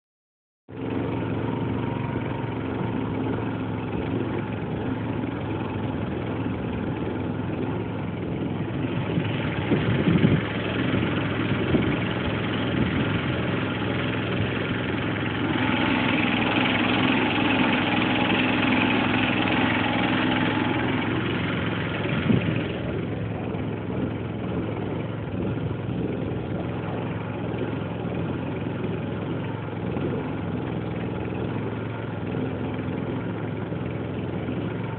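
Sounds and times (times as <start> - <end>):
small boat motor running: 0.7 - 34.9.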